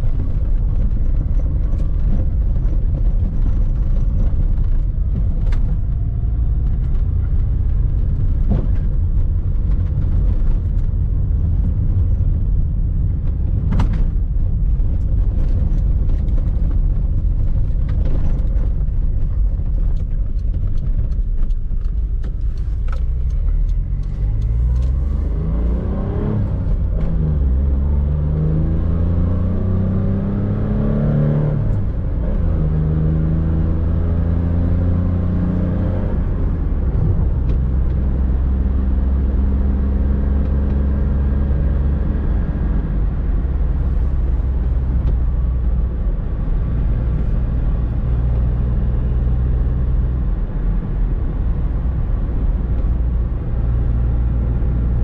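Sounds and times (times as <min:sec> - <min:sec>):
car engine from inside cabin: 0:00.0 - 0:55.0
tyre and road noise: 0:00.0 - 0:55.0.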